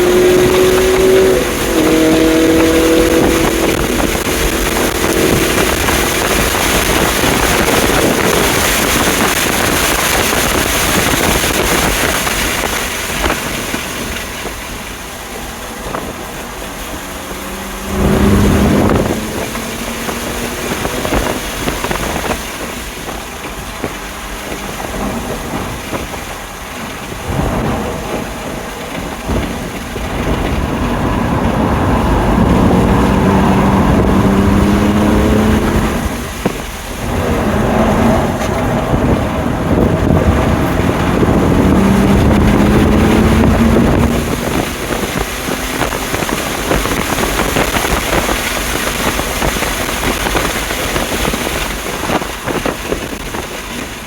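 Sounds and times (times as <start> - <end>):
car engine under heavy load: 0.0 - 54.0
wind and road noise: 0.0 - 54.0.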